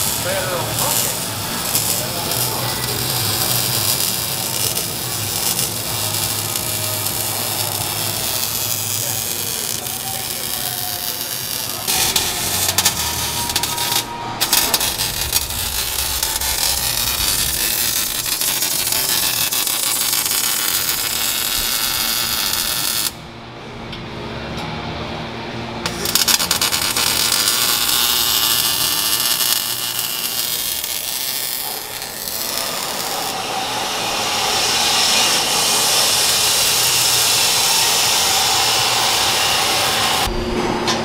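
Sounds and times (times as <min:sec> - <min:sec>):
power tool grinding steel pipe: 0:00.0 - 0:23.1, 0:25.9 - 0:40.3.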